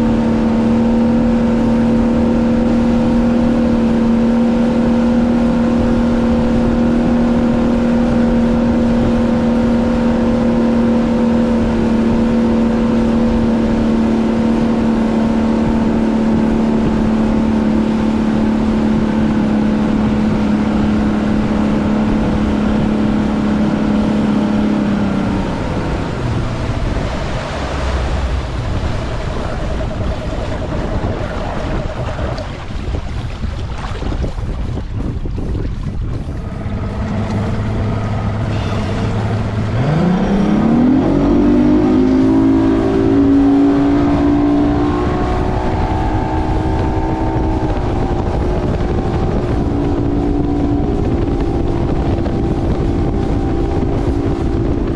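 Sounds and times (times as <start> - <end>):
boat motor running: 0.0 - 54.9
fluttering hum: 0.0 - 54.9
water rushing along hull: 0.0 - 54.9
wind noise: 0.0 - 54.9.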